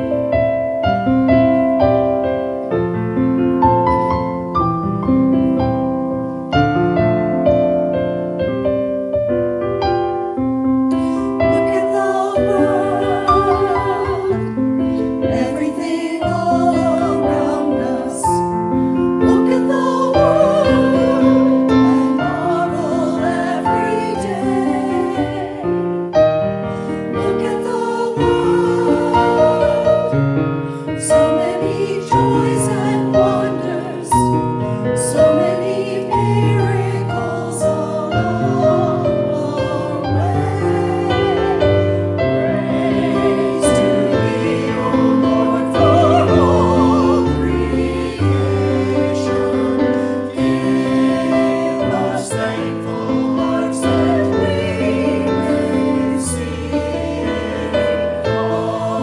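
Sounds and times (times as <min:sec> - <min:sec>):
church choir singing: 0:00.0 - 0:59.0
piano accompaniment: 0:00.0 - 0:59.0.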